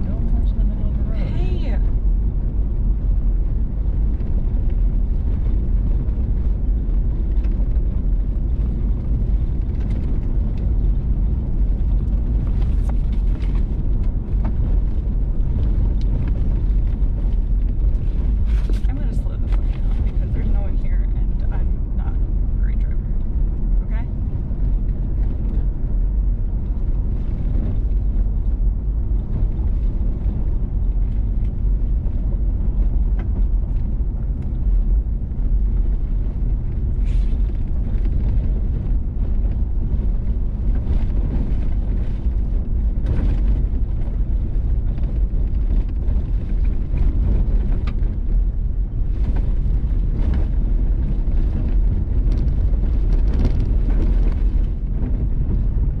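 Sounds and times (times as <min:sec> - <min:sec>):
vehicle driving on gravel: 0:00.0 - 0:56.0.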